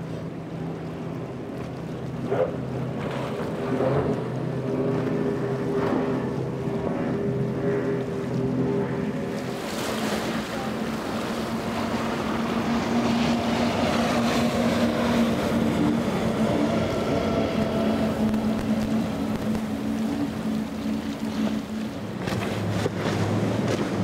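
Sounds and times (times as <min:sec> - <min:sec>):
boat engines droning: 0:00.0 - 0:24.0
rush of spray and wind: 0:00.0 - 0:24.0.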